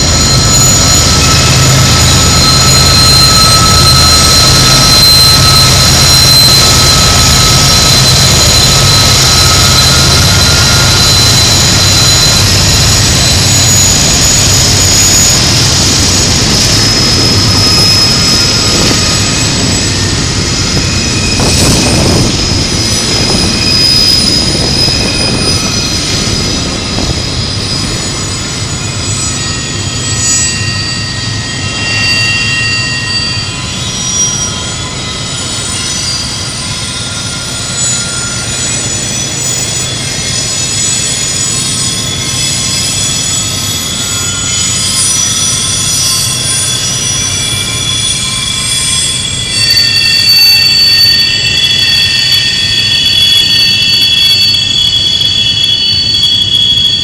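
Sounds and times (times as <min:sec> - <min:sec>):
diesel locomotive engine drone: 0:00.0 - 0:57.0
wheel flange squeal: 0:00.0 - 0:57.0.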